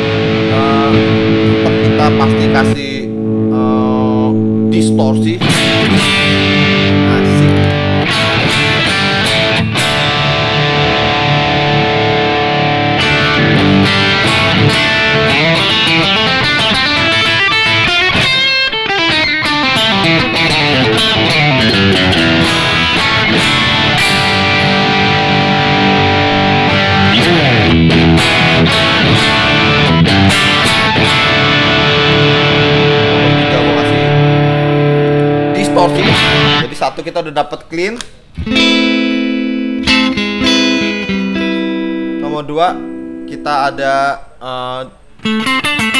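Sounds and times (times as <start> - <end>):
distorted electric guitar: 0.0 - 37.2, 38.1 - 45.9.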